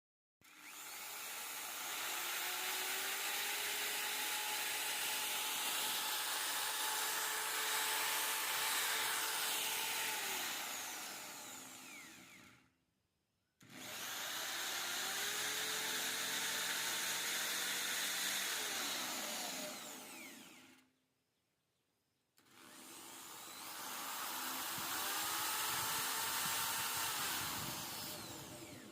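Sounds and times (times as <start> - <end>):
electric drill motor whining: 0.4 - 12.8, 13.6 - 21.0, 22.4 - 28.9.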